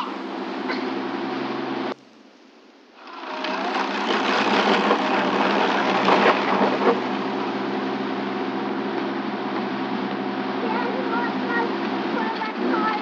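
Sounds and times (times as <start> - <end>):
mechanical running noise with hum: 0.0 - 13.0.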